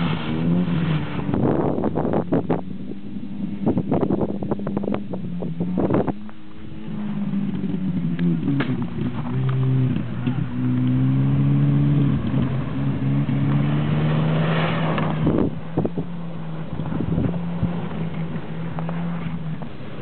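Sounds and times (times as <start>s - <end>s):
car engine at high revs: 0.0s - 20.0s.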